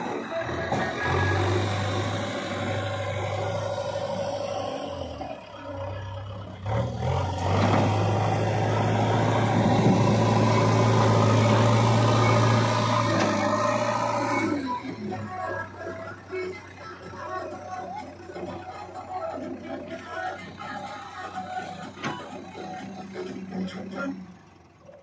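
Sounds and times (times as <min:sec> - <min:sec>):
diesel engine revving under load: 0:00.0 - 0:25.0.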